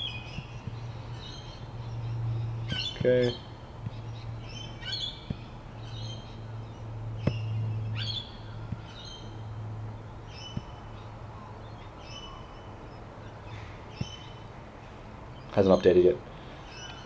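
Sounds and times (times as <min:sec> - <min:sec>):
birds chirping: 0:00.0 - 0:17.0
low steady hum: 0:00.0 - 0:17.0.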